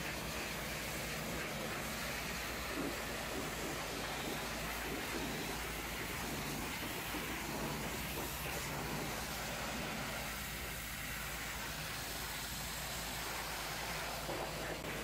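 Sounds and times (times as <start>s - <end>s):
pressure washer jet hissing on metal: 0.0s - 15.0s.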